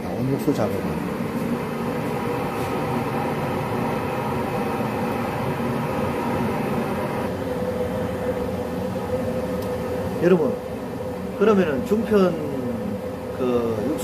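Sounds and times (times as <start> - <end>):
faint hum: 0.0 - 14.0
gas burners roaring: 0.0 - 14.0.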